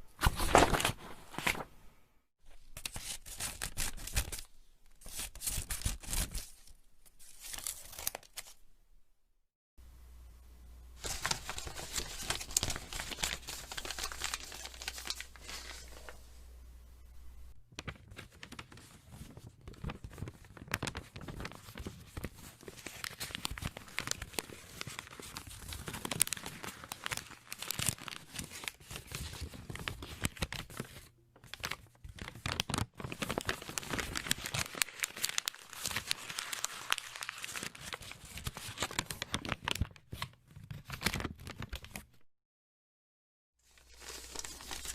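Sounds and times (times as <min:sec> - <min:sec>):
paper crumpling and tearing: 0:00.2 - 0:01.7, 0:02.6 - 0:08.6, 0:11.0 - 0:16.2, 0:17.8 - 0:42.0, 0:43.7 - 0:44.9.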